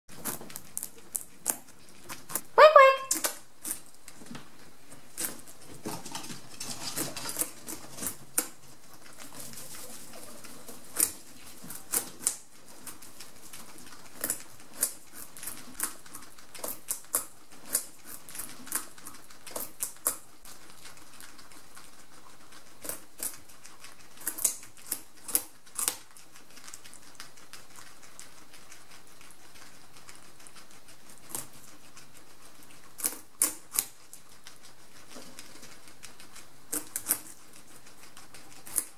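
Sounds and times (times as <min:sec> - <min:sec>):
guinea pigs gnawing pumpkin: 0:00.1 - 0:38.9.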